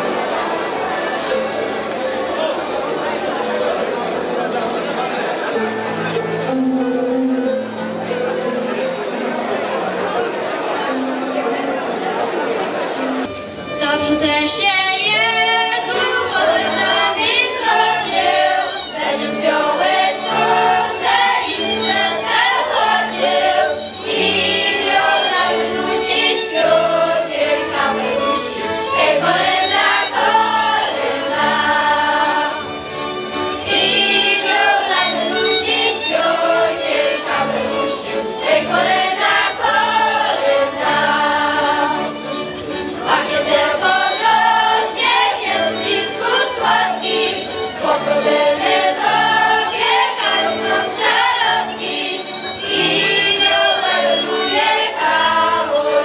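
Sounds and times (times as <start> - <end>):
mixed choir singing: 0.0 - 13.3, 14.5 - 56.0
accordion: 0.0 - 56.0.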